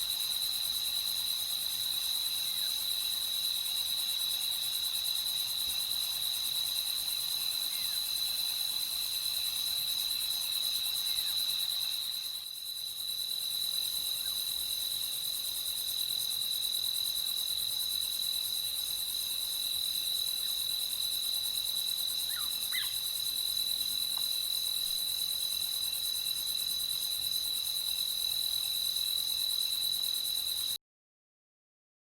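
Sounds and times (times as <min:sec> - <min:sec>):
crickets trilling: 0:00.1 - 0:30.7.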